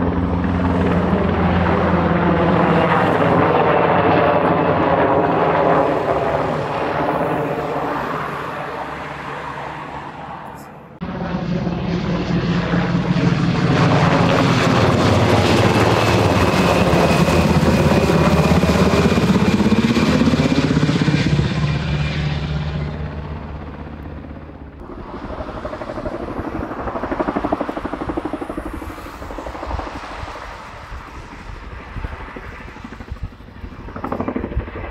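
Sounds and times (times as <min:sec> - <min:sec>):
helicopter passing close: 0:00.0 - 0:34.9
tandem-rotor helicopter in flight: 0:00.0 - 0:34.9.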